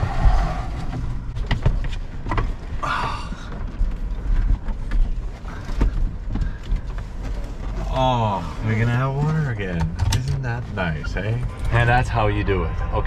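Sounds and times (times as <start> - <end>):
knocks and bumps of climbing: 0.0 - 10.9
steady low rumble: 0.0 - 13.0.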